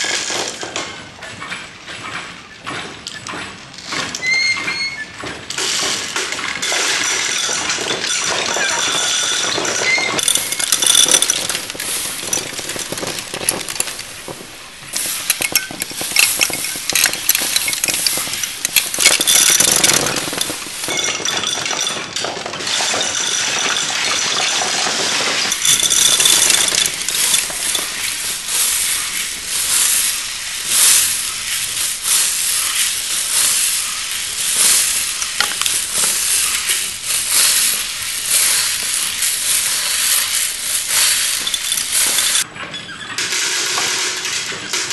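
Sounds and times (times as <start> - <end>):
wooden mechanism clattering: 0.0 - 44.9
steel balls rattling in dish: 5.4 - 42.5, 43.2 - 44.9.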